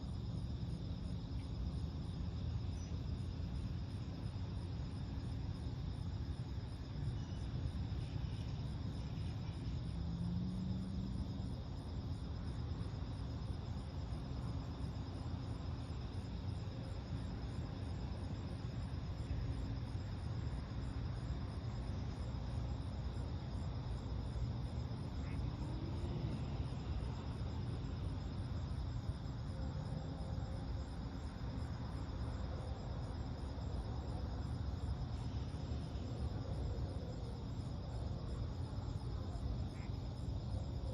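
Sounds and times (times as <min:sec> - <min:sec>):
crickets chirping: 0:00.0 - 0:40.9
distant road traffic rumble: 0:00.0 - 0:40.9.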